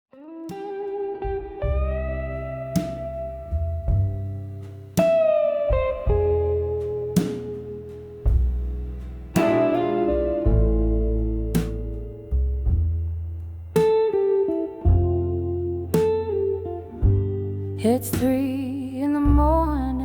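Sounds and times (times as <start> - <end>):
slow blues guitar: 0.1 - 20.0
slow steady beat: 0.6 - 20.0
deep bass: 1.3 - 20.0.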